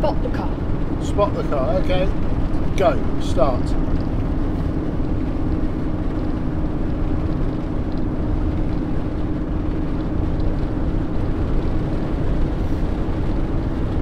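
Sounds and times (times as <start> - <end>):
engine and road rumble: 0.0 - 14.0.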